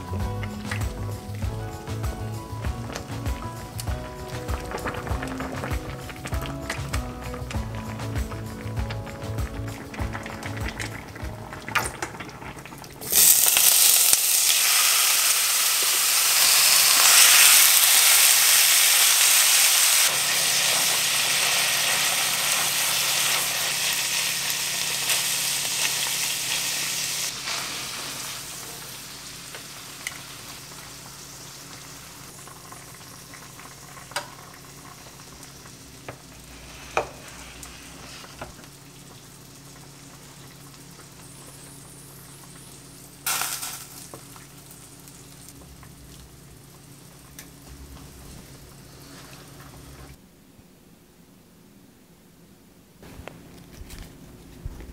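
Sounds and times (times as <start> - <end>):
meat sizzling in a frying pan: 0.0 - 50.1.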